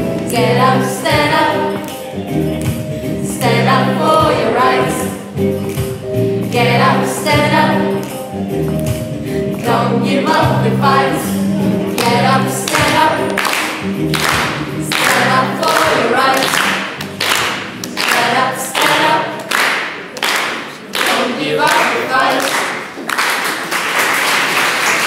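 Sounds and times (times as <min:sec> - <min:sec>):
group of voices singing: 0:00.0 - 0:08.5, 0:09.2 - 0:17.2, 0:17.8 - 0:19.7, 0:20.8 - 0:22.8.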